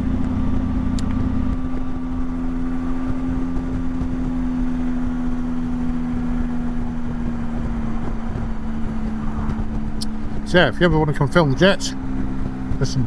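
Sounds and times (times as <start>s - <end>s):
motorcycle engine cruising: 0.0s - 13.0s
wind rumble: 0.0s - 13.0s.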